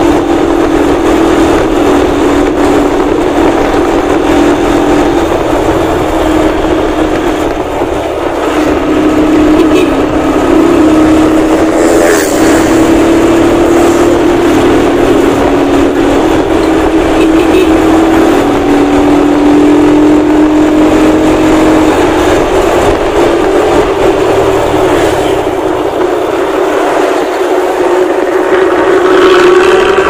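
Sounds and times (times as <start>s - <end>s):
diesel bus engine droning: 0.0s - 30.0s.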